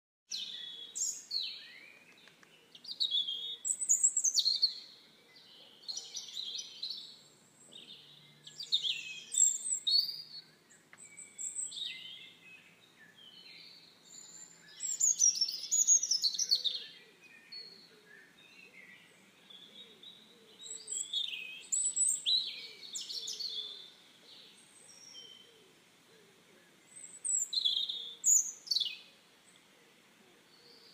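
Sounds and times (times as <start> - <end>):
songbirds chirping and trilling: 0.3 - 30.9.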